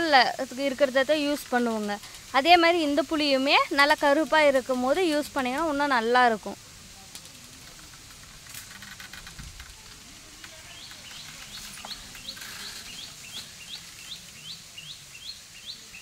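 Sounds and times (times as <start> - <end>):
faint rustling and clicks: 0.6 - 14.4.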